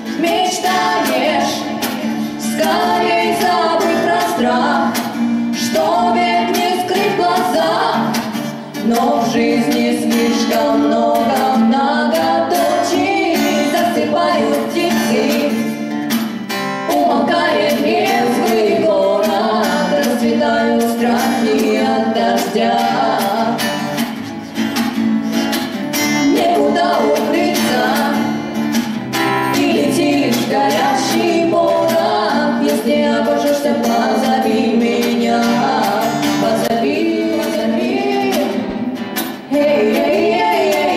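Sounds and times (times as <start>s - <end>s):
woman singing: 0.0s - 15.8s, 16.9s - 24.0s, 26.2s - 28.5s, 29.4s - 40.9s
acoustic guitar: 0.0s - 40.9s.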